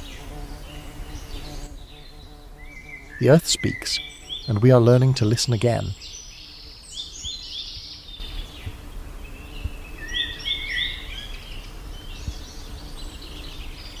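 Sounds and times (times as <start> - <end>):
birds chirping: 0.0 - 14.0
faint steady hiss: 0.0 - 14.0.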